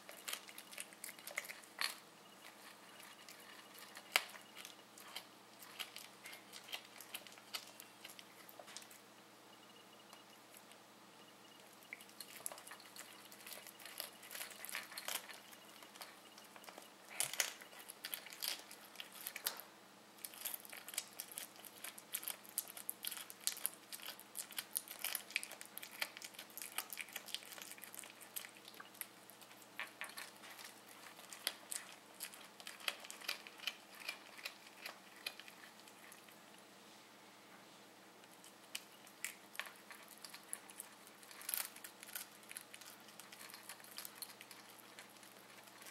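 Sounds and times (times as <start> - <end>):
cat chewing and crunching: 0.0 - 9.2, 10.0 - 10.8, 11.4 - 36.7, 38.2 - 45.9.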